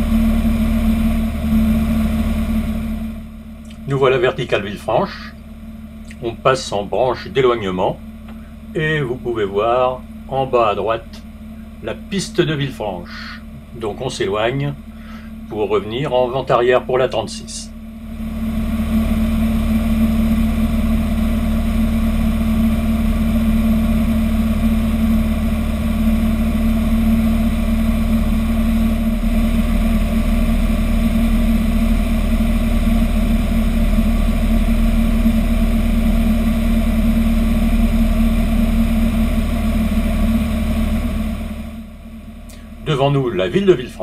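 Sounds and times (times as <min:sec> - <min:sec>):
aircraft engine droning: 0:00.0 - 0:44.0.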